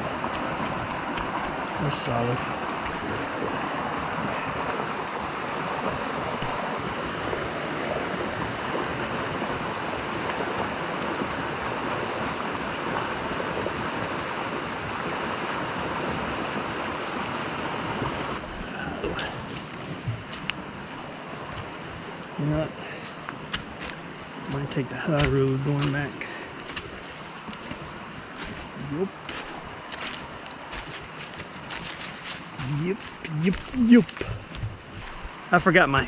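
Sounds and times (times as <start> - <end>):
creek rushing over rocks: 0.0 - 36.0.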